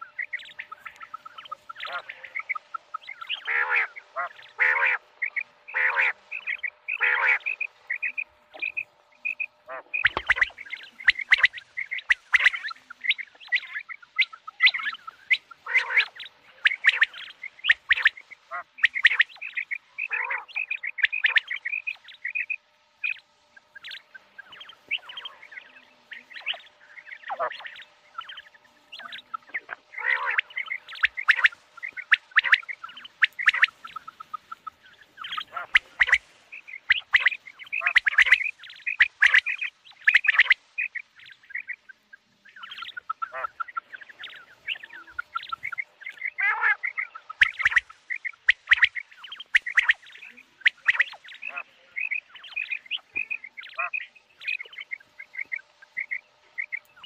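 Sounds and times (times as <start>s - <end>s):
quail chirping: 0.0s - 57.0s.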